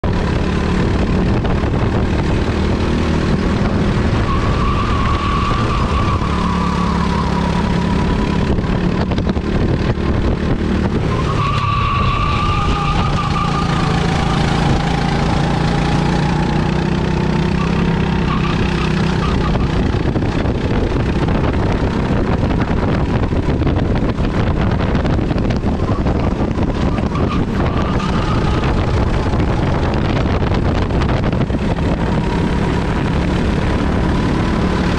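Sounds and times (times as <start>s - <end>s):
kart engine at full throttle: 0.0s - 34.9s.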